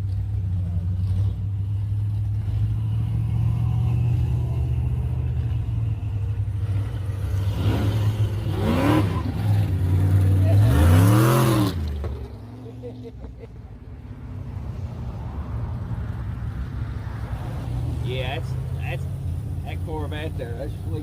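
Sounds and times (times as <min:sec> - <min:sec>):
car engine rumbling and revving: 0:00.0 - 0:21.0.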